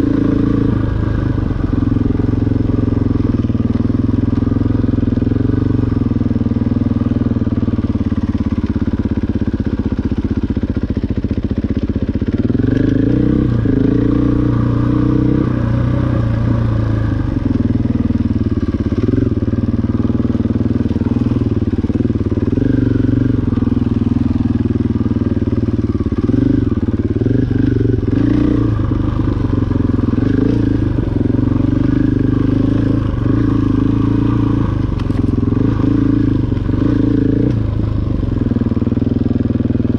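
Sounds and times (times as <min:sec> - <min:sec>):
dirt bike engine revving: 0:00.0 - 0:06.0, 0:12.2 - 0:39.2.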